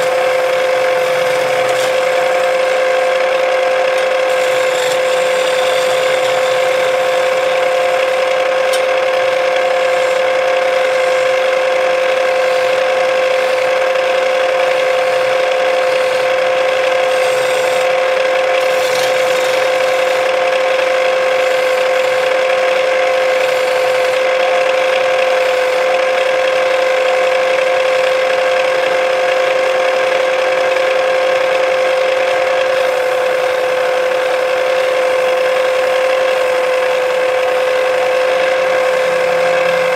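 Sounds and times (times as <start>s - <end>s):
chisel shaving spinning wood: 0.0s - 39.9s
wood lathe whine: 0.0s - 39.9s.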